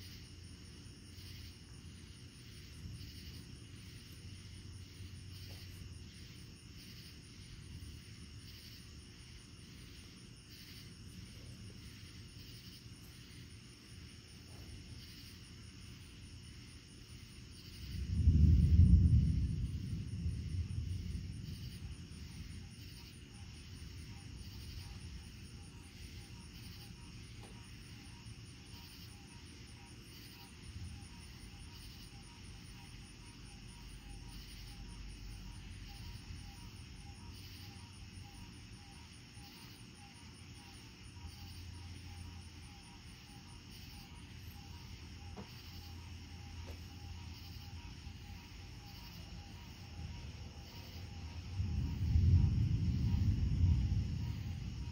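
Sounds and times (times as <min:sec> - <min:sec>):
crickets chirping: 0:00.0 - 0:54.9
distant thunder rumbling: 0:00.3 - 0:54.9.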